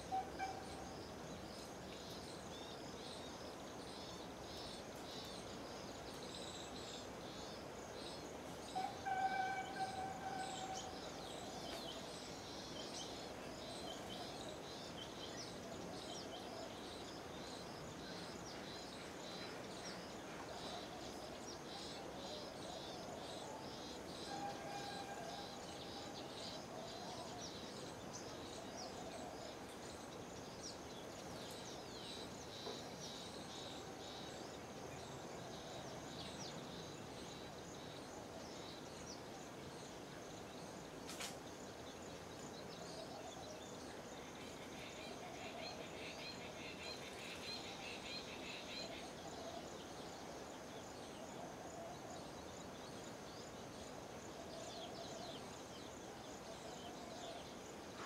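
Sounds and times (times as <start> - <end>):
birds chirping and twittering: 0.0 - 58.0
steady background hiss: 0.0 - 58.0.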